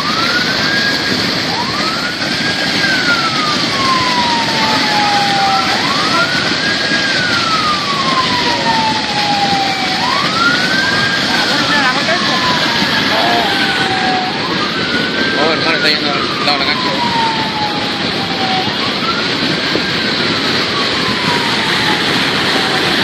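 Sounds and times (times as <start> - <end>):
rushing floodwater: 0.0 - 23.0
siren wailing: 0.0 - 23.0.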